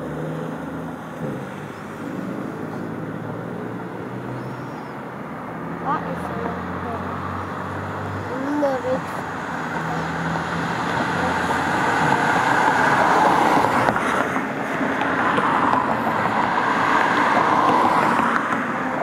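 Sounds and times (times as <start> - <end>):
truck approaching: 0.0 - 19.0.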